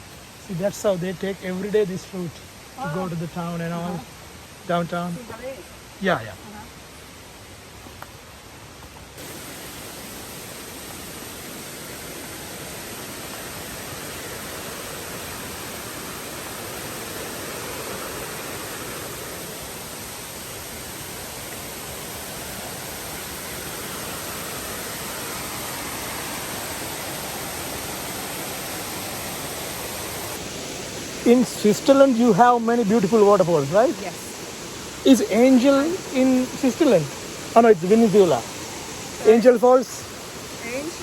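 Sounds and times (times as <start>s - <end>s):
rushing river water: 0.0s - 41.0s.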